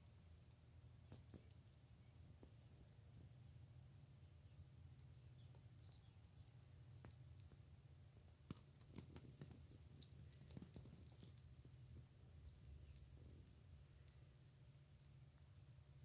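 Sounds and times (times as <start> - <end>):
low steady hum: 0.0 - 16.0
rabbits nibbling clicks: 1.0 - 4.2, 4.9 - 16.0.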